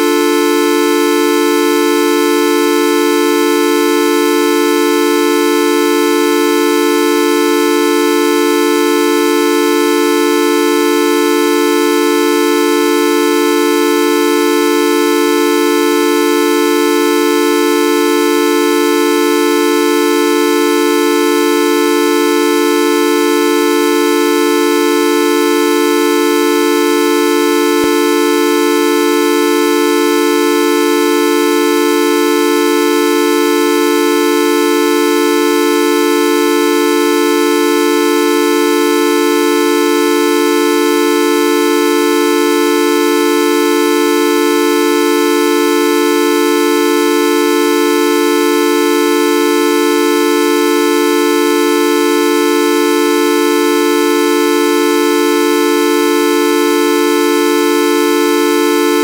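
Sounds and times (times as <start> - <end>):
horn-like buzzing tone: 0.0 - 59.0.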